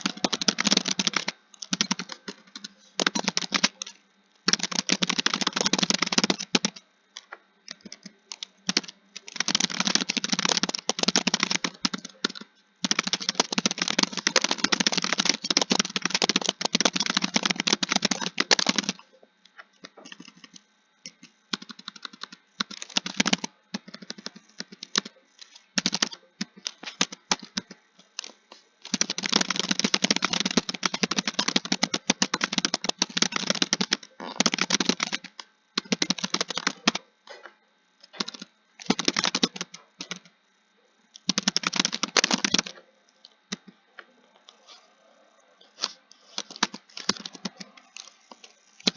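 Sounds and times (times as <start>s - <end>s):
computer keyboard typing: 0.0s - 19.1s, 19.8s - 37.1s, 38.0s - 40.3s, 41.1s - 44.8s, 45.7s - 48.9s.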